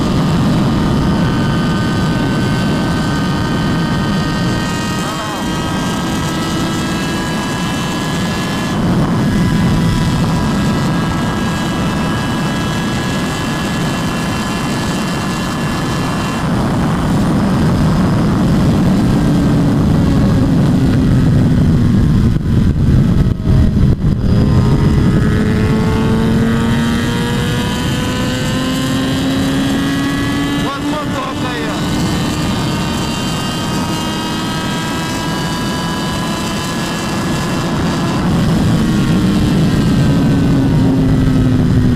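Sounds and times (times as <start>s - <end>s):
motorcycle engine running: 0.0s - 41.9s
wind roar on microphone: 0.0s - 41.9s.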